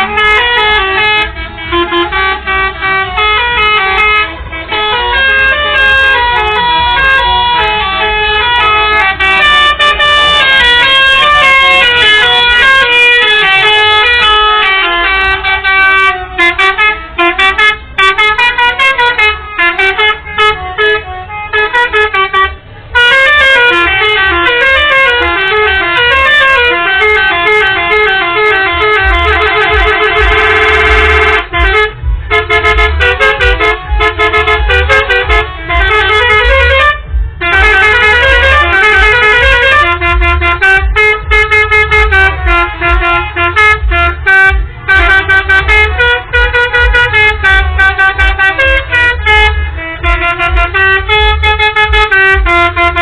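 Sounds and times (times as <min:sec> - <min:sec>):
musical bus horns: 0:00.0 - 0:53.0.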